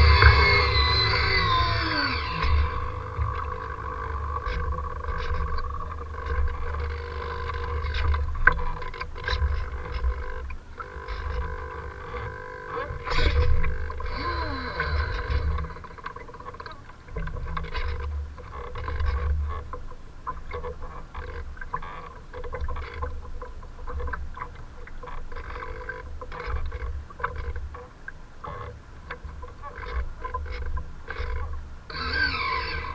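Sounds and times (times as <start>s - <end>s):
faint steady hum: 0.0s - 32.9s.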